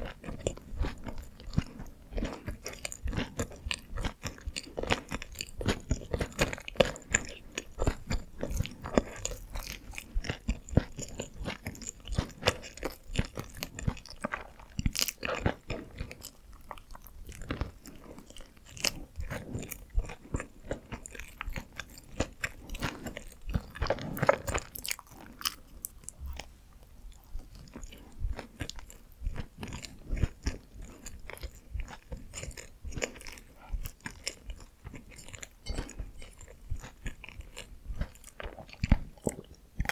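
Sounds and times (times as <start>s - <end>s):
biting into buns: 0.0s - 26.5s, 27.3s - 39.9s
chewing and mouth smacks: 0.0s - 39.9s.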